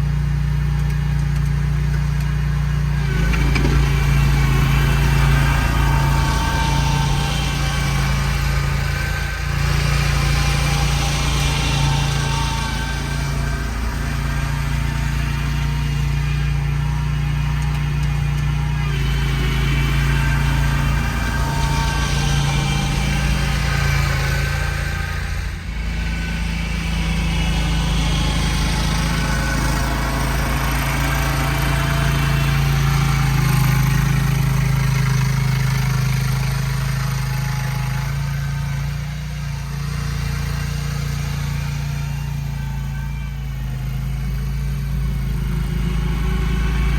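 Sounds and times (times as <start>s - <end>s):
snowcat engine running: 0.0s - 46.9s.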